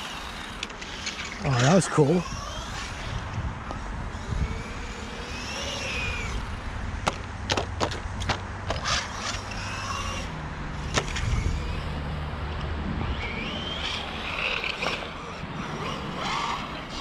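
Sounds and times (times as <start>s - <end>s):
rc car motor whining: 0.0s - 7.3s, 8.6s - 17.0s.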